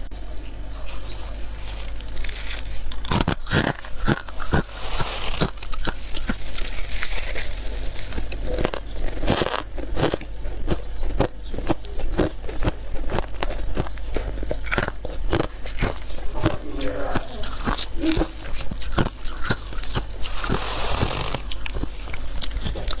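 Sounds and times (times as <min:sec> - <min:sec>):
frost being chewed: 0:00.2 - 0:23.0.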